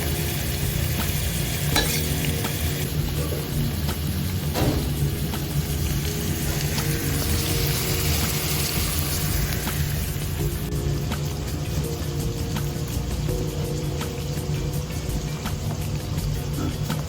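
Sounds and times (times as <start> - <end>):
background music: 0.0 - 17.0
food sizzling in a pot: 0.0 - 17.0.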